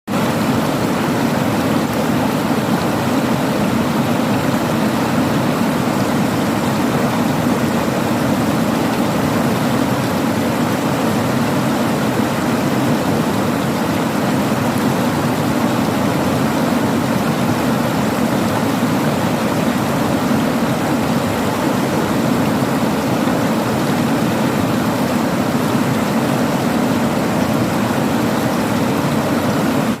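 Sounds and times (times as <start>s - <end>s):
river rushing among rocks: 0.1s - 30.0s.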